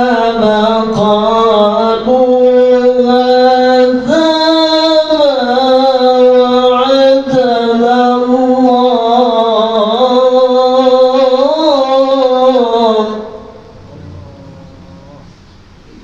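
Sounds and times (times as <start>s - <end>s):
man reciting melodically: 0.0s - 15.4s.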